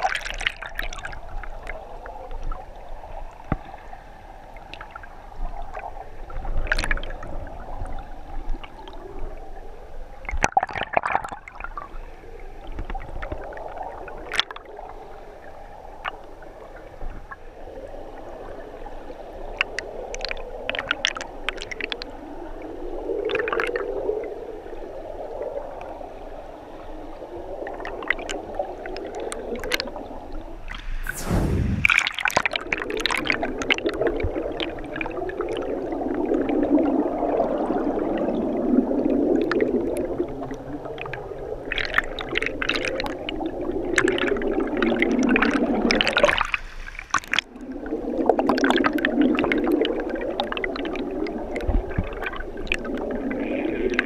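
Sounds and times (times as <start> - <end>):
underwater river rush and gurgle: 0.0 - 54.0.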